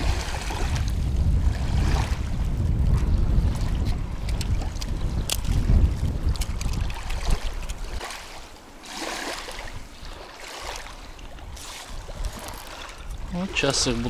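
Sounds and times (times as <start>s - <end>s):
running river water: 0.0s - 14.0s
wind buffeting microphone: 0.0s - 14.0s.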